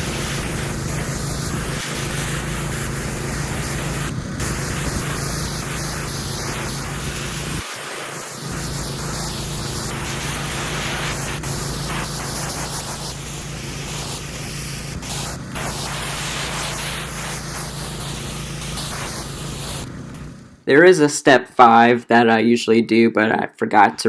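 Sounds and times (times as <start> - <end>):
pressure washer engine hum: 0.0 - 20.6
water spraying onto concrete: 0.0 - 20.6.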